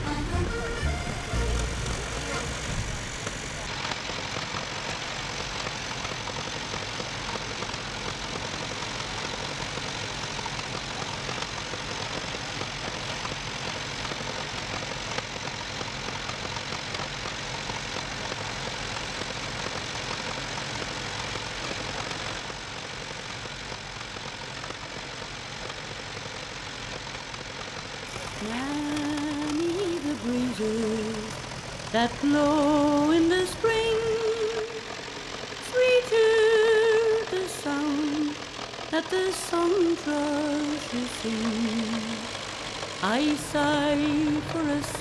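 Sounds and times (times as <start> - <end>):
tractor engine idling: 0.0 - 45.0.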